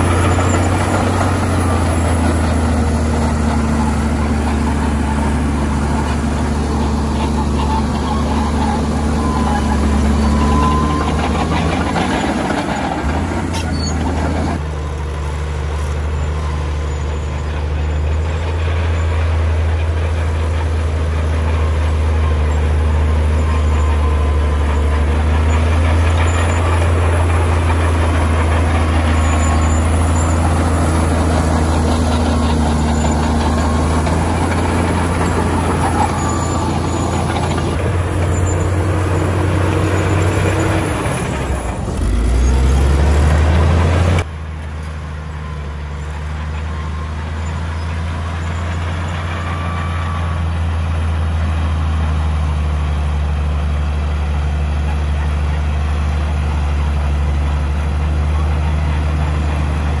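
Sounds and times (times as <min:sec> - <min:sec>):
bulldozer diesel engine drone: 0:00.0 - 1:00.0.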